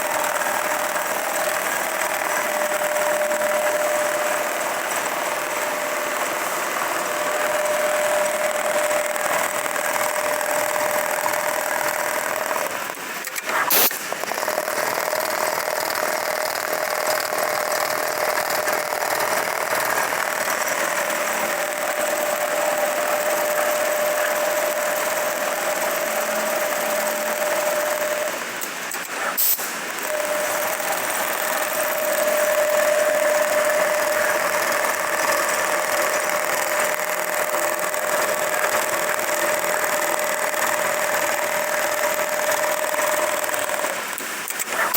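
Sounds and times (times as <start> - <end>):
sewing machine running: 0.0 - 44.9.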